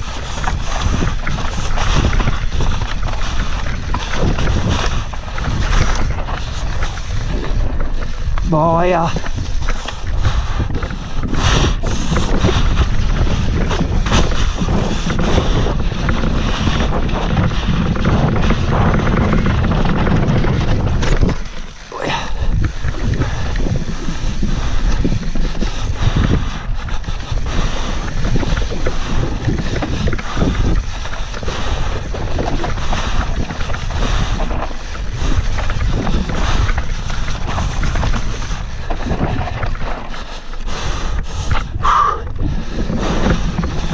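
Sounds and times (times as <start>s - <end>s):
bike rattling and knocking: 0.0s - 43.9s
bike tyres on dirt trail: 0.0s - 43.9s
wind on camera microphone: 0.0s - 43.9s.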